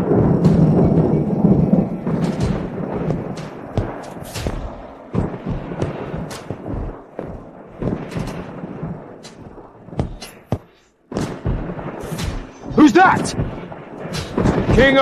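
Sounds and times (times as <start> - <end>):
dense low rumble: 0.0 - 15.0
heavy booming hits: 0.0 - 15.0.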